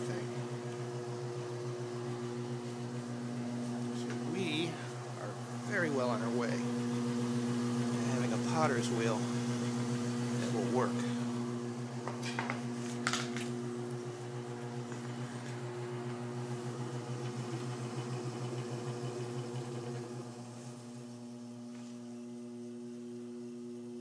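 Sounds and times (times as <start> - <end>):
potter's wheel motor humming: 0.0 - 24.0.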